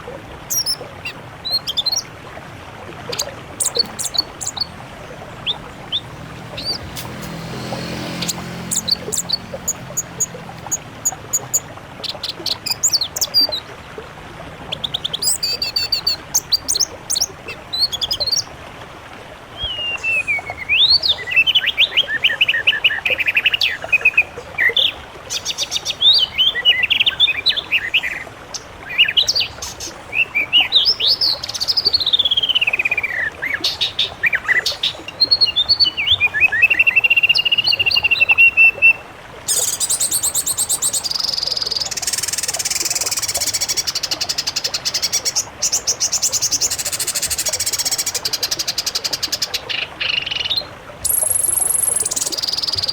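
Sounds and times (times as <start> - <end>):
songbirds singing: 0.0 - 13.7, 14.6 - 18.5, 19.6 - 52.9.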